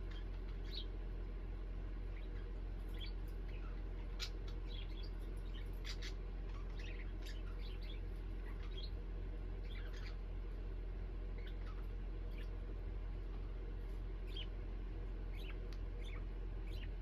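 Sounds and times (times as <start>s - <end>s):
parakeets chirping: 0.0s - 17.0s
steady low hum: 0.0s - 17.0s.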